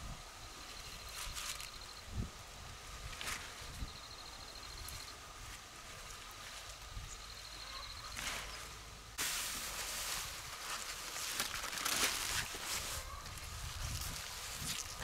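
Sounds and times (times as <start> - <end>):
leafy vegetables rustling: 0.6 - 15.0.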